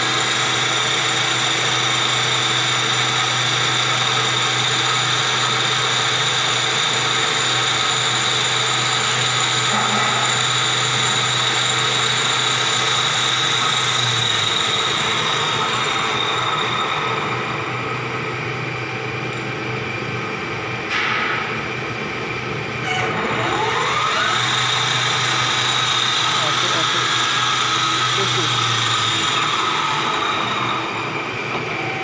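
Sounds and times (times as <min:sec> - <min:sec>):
lathe mechanical whine: 0:00.0 - 0:20.8, 0:21.8 - 0:32.0.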